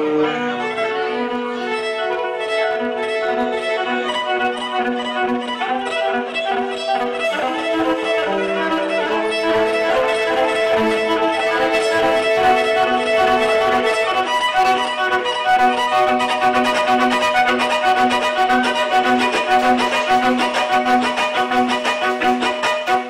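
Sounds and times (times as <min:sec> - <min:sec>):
violin playing jazz: 0:00.0 - 0:23.0.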